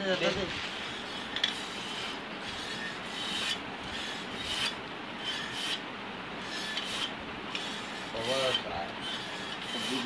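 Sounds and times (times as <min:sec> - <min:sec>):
hand air pump hissing: 0:00.8 - 0:05.8, 0:06.4 - 0:10.0.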